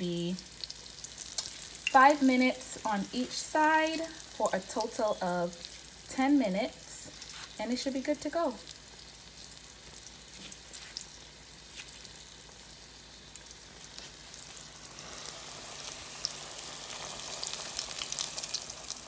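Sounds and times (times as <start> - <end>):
fish frying in oil: 0.0 - 19.0.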